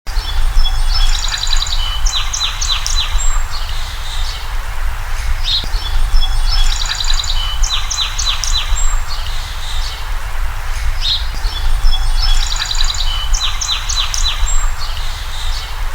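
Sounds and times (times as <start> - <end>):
songbird singing: 0.1 - 15.9
steady low rumble: 0.1 - 15.9.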